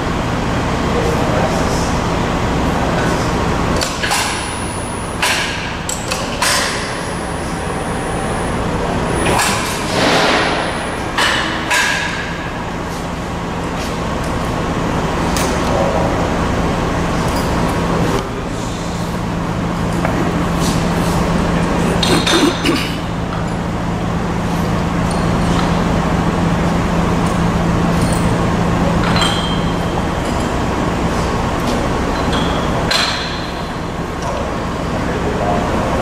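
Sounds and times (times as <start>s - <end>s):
folding machine humming: 6.1s - 36.0s.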